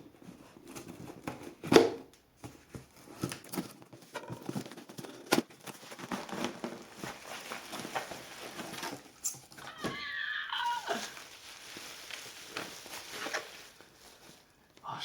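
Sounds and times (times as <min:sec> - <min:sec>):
packaging rustling and crinkling: 0:02.4 - 0:14.8.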